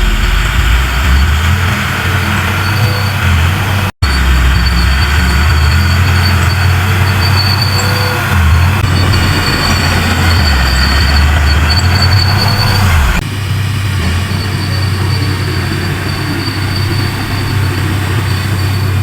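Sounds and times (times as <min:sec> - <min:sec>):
heavy diesel machinery running: 0:00.0 - 0:19.0
thin high whine: 0:00.0 - 0:19.0.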